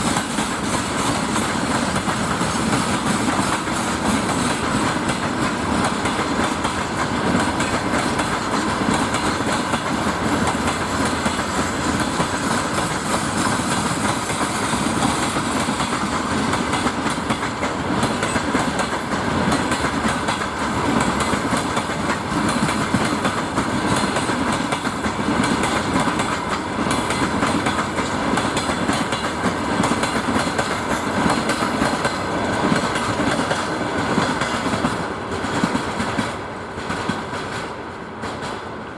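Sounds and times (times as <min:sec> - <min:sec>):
train wagons rumbling past: 0:00.0 - 0:38.9.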